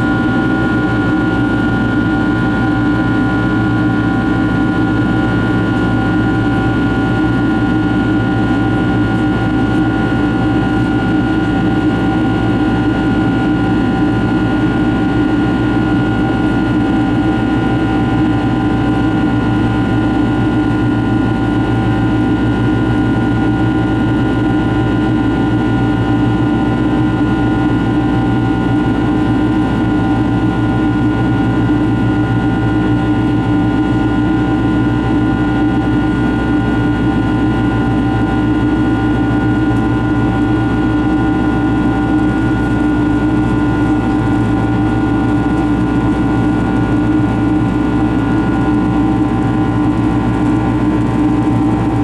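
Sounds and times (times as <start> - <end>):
jet engines in flight from cabin: 0.0 - 52.0.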